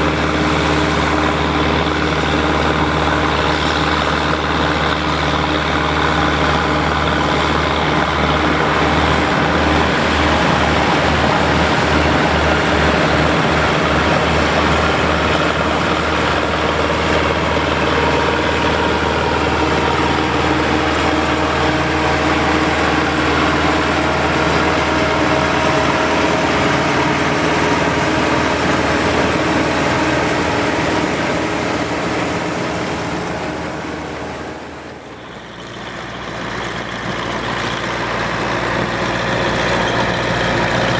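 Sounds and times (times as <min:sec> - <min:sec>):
harvesting machinery engine running: 0:00.0 - 0:40.9.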